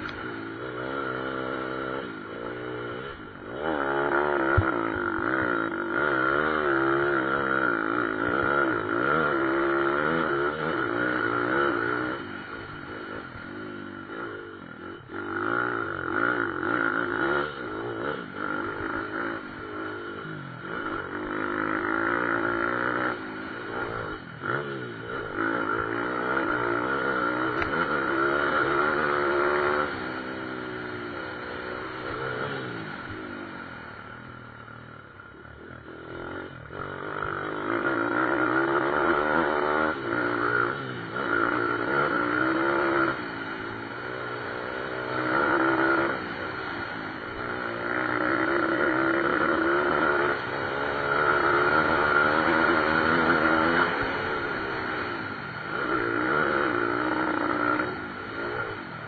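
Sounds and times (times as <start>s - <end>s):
pit bike engines revving: 0.0s - 59.0s.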